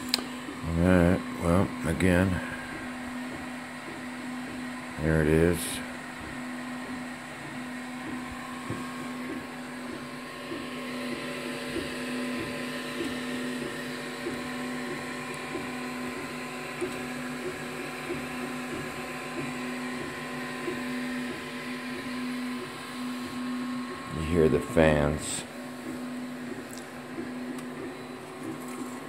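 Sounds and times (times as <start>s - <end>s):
printer fans humming: 0.0s - 29.0s.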